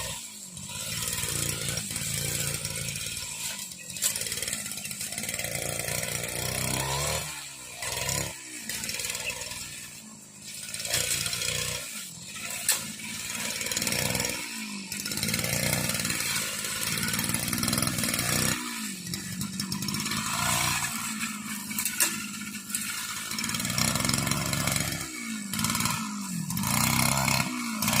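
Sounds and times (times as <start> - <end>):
brush cutter cutting grass: 0.0 - 28.0.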